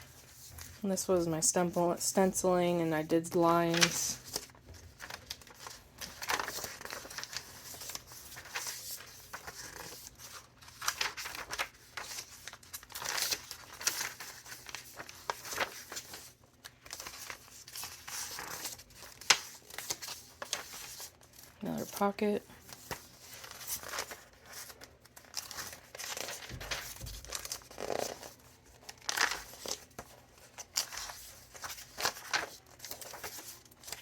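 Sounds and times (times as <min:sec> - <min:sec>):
paper pages rustling and crinkling: 0:00.0 - 0:00.8, 0:03.6 - 0:34.0.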